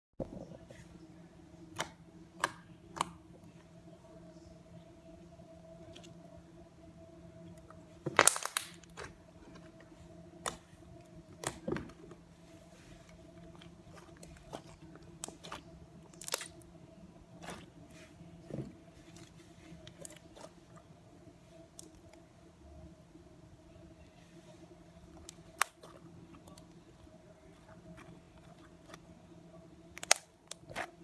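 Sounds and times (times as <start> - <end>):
faint steady hum: 0.2 - 31.0.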